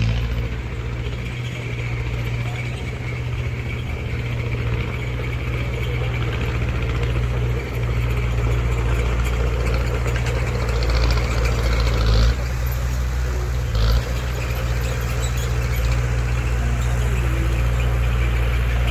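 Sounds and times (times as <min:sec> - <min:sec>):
heavy machinery diesel engine: 0:00.0 - 0:18.9.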